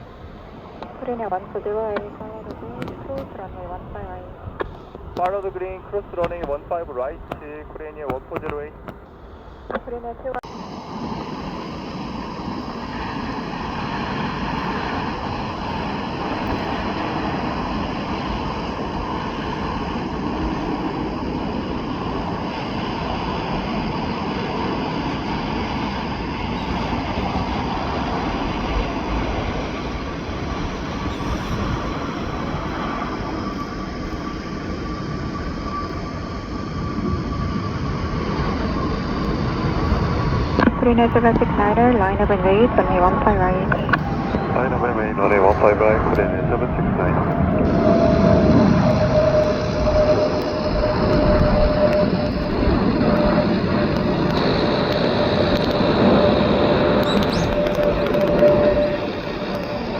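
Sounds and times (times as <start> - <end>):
faint high engine whine: 0.0 - 59.9
jet engines rushing: 0.0 - 59.9.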